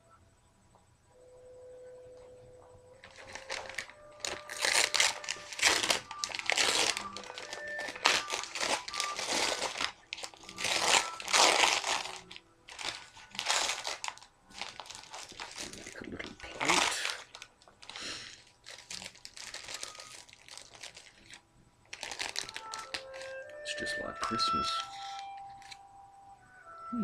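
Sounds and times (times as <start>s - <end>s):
food wrapper crinkling: 3.0s - 23.6s, 24.3s - 25.8s.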